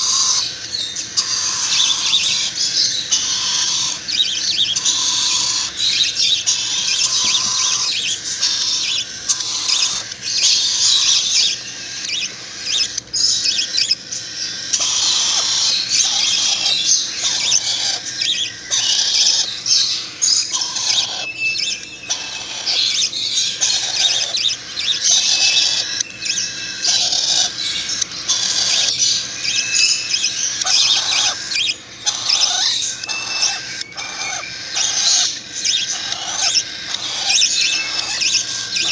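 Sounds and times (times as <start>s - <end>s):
bird chicks squeaking: 0.0s - 38.9s.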